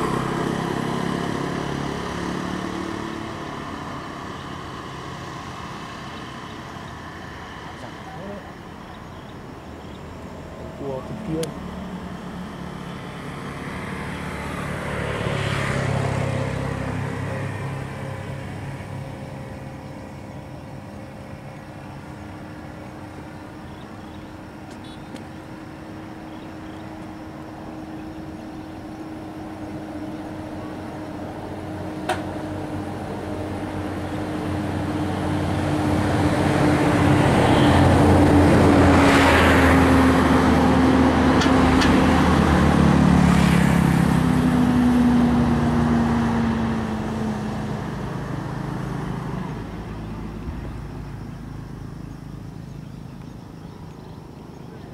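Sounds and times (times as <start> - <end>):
engine humming steadily: 0.0 - 54.9
vehicle passing: 0.0 - 54.9.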